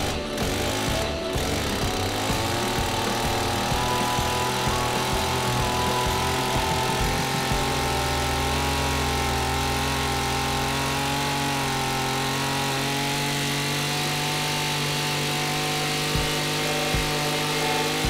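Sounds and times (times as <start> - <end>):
brush cutter engine idling: 0.0 - 18.0.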